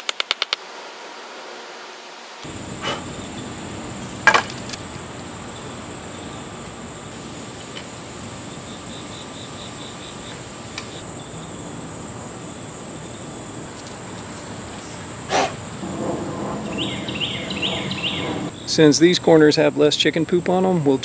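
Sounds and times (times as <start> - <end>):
insects shrilling: 0.1 - 18.8.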